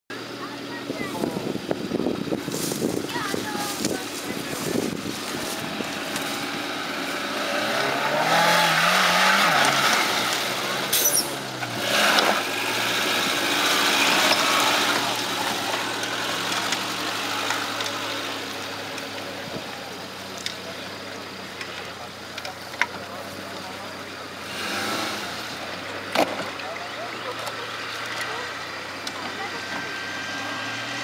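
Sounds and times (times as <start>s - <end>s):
off-road engine revving: 0.1s - 31.0s.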